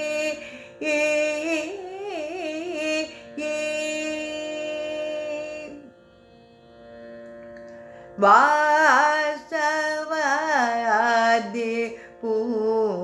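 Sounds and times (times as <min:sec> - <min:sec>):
woman singing: 0:00.0 - 0:05.9, 0:08.2 - 0:13.0.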